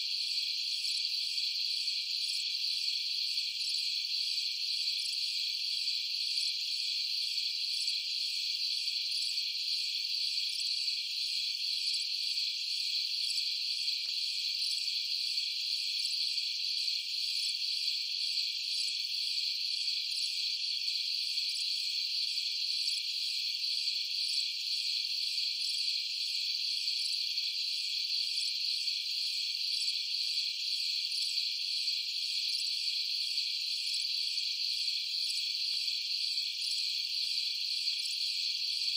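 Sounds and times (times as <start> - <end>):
insects chirring: 0.1 - 38.9.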